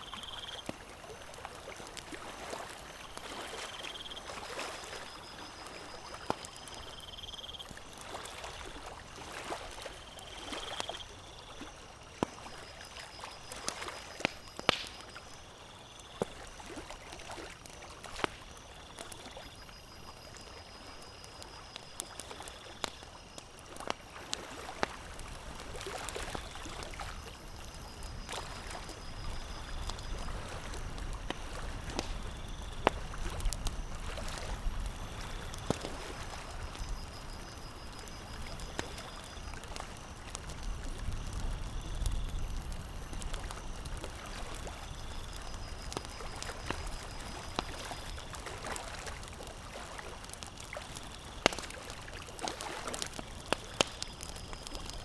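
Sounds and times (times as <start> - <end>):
lake water lapping: 0.0 - 15.2, 23.7 - 41.1, 43.3 - 55.0
campfire crackling and popping: 0.0 - 55.0.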